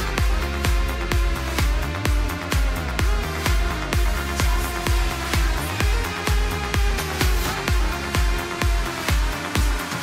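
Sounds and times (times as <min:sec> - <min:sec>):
electronic dance music: 0:00.0 - 0:10.0
steady kick drum: 0:00.0 - 0:10.0.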